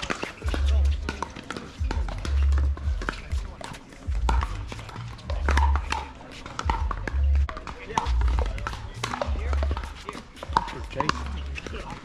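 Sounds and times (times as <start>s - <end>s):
paddles hitting plastic ball: 0.0s - 12.0s.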